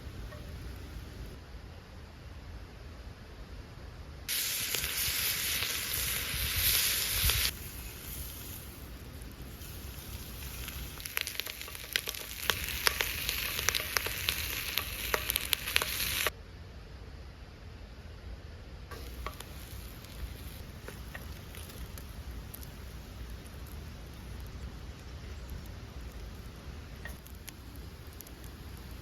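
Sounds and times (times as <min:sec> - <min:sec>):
food frying and sizzling: 0:00.0 - 0:01.4, 0:04.3 - 0:16.3, 0:18.9 - 0:29.0
sharp crackling pops: 0:00.0 - 0:01.4, 0:04.3 - 0:16.3, 0:18.9 - 0:29.0.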